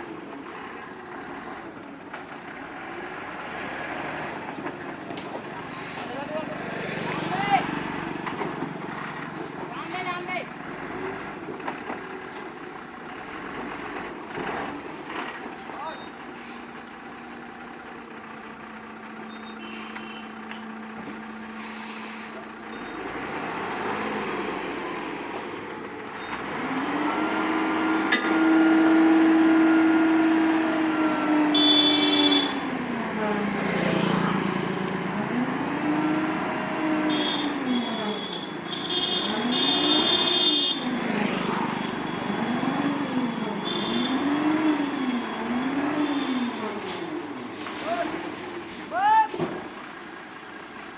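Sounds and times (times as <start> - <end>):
heavy truck engine running: 0.0 - 50.9.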